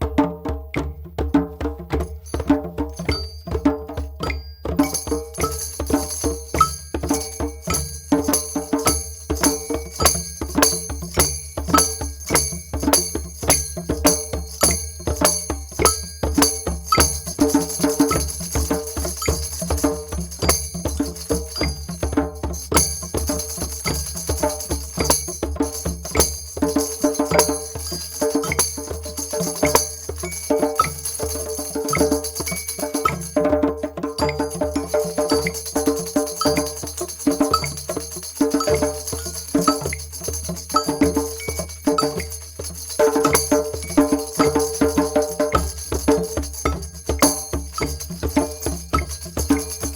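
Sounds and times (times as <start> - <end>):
drums in fast rhythm: 0.0 - 49.9
high jingling: 2.0 - 49.9.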